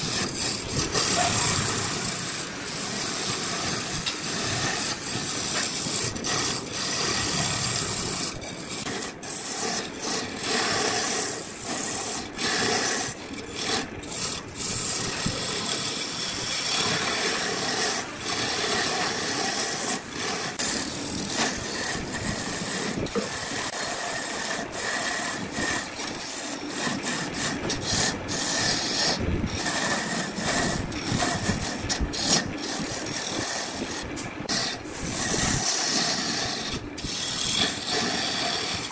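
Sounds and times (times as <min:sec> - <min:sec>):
lathe tool rasping wood: 0:00.0 - 0:38.9.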